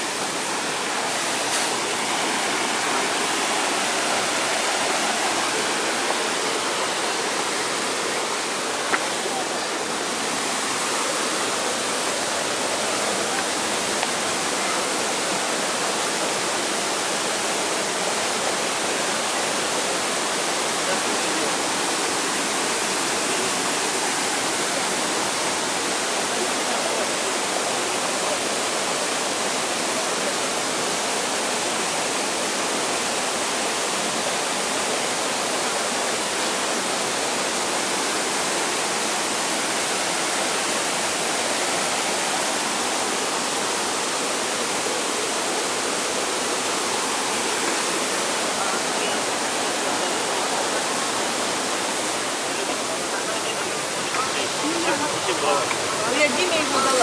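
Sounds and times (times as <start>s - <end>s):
waterfall rushing over boulders: 0.0s - 57.0s.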